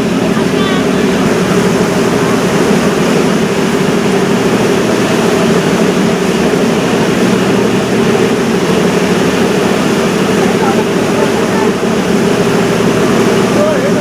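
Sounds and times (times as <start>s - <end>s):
boat engine drone: 0.0s - 14.0s
constant rushing noise: 0.0s - 14.0s.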